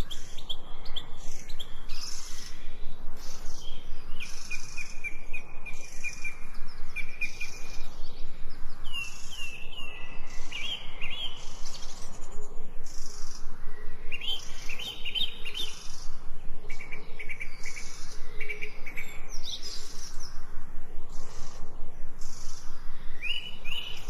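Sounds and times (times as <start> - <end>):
songbirds chirping: 0.0 - 24.0
steady background hiss: 0.0 - 24.0.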